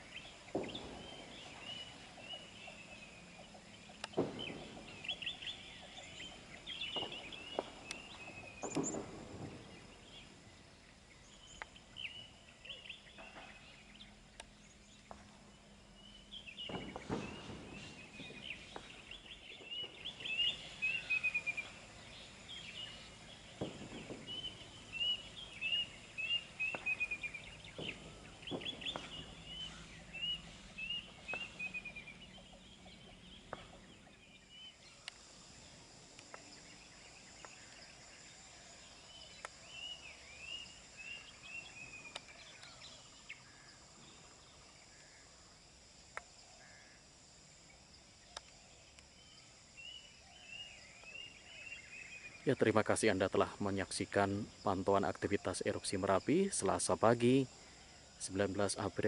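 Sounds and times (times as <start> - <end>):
small birds chirping: 0.0 - 47.0, 47.6 - 59.0.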